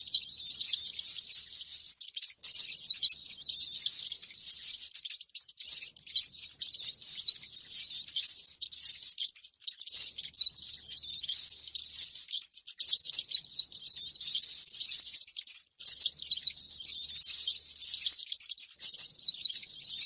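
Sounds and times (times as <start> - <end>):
rodents squeaking: 0.0 - 20.0.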